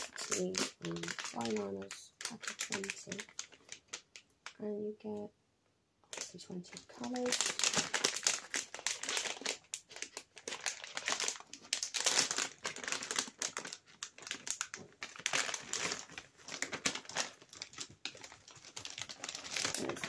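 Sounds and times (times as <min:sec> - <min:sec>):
plastic packaging crinkling: 0:00.0 - 0:04.6, 0:06.0 - 0:20.0.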